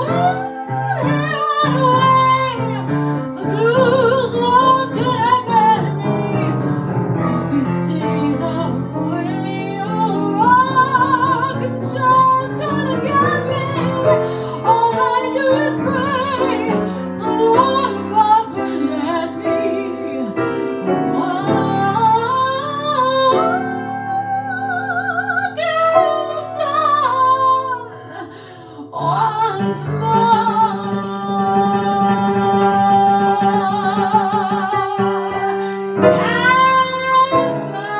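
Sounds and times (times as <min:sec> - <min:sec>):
piano accompaniment: 0:00.0 - 0:37.9
woman singing with vibrato: 0:00.0 - 0:37.9.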